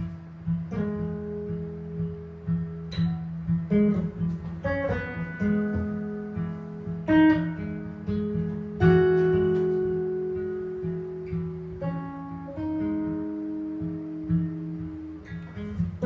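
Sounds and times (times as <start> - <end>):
jazz guitar chords: 0.0 - 16.0.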